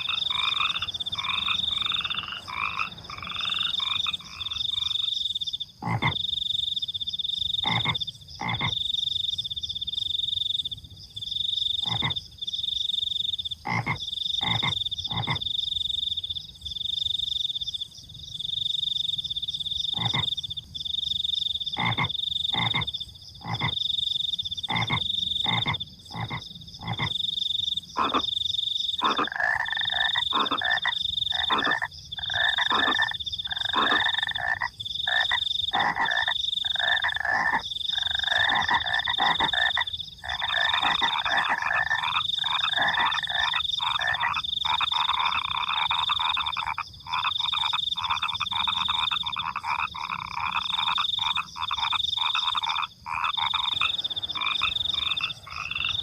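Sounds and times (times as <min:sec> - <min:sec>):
crickets chirping: 0:00.0 - 0:56.0
frogs croaking: 0:00.0 - 0:56.0.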